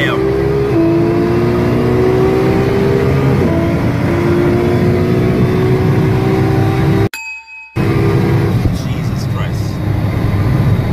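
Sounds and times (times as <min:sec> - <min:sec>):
car engine at full throttle: 0:00.0 - 0:07.1, 0:07.8 - 0:10.9.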